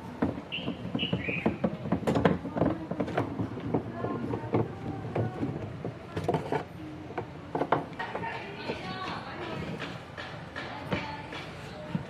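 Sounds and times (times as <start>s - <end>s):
irregular knocks and clicks: 0.2s - 12.0s.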